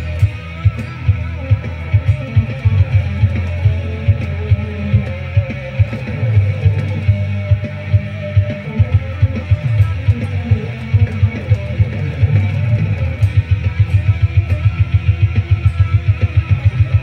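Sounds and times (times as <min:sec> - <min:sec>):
electric guitar: 0:00.0 - 0:17.0
fast low beat: 0:00.0 - 0:17.0.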